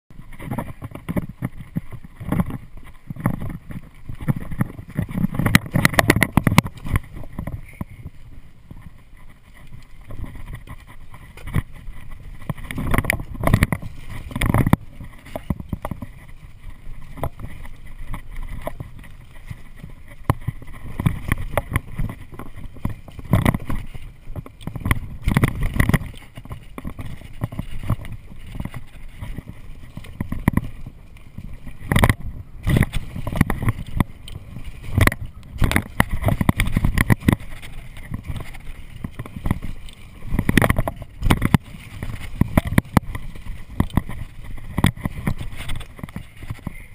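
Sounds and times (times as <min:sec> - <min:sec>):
bike rattling and knocking: 0:00.1 - 0:46.9
bike tyres rumbling on dirt: 0:00.1 - 0:46.9.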